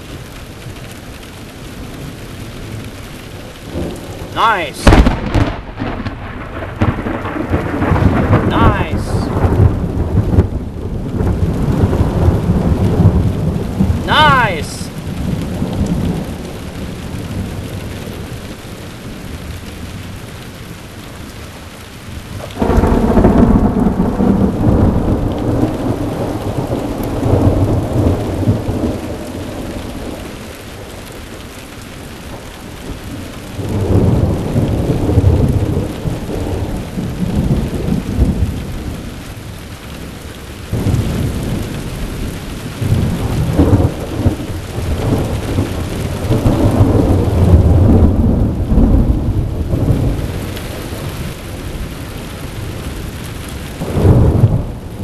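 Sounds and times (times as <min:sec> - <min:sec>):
rain falling: 0:00.0 - 0:55.0
thunder rumbling: 0:01.6 - 0:20.8, 0:21.8 - 0:55.0.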